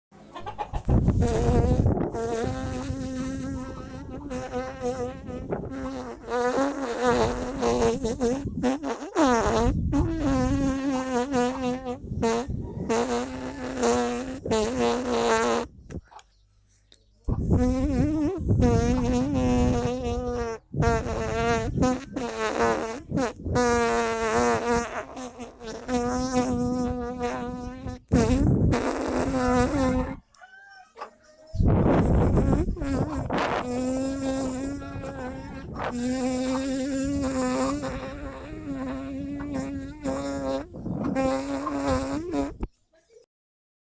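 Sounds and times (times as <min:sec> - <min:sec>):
person humming like a bee: 0:01.1 - 0:15.7, 0:17.4 - 0:30.2, 0:32.0 - 0:42.6.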